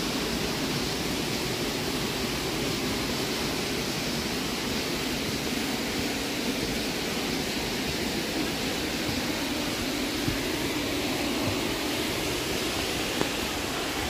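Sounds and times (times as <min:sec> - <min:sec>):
water rushing in a gorge: 0:00.0 - 0:14.0.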